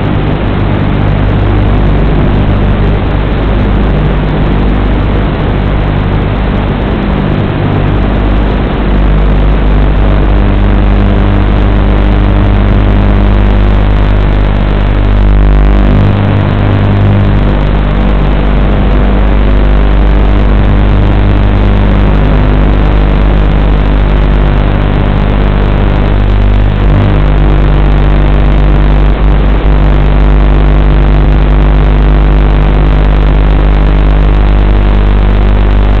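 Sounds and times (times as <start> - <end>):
electronic buzz and hiss: 0.0 - 36.0.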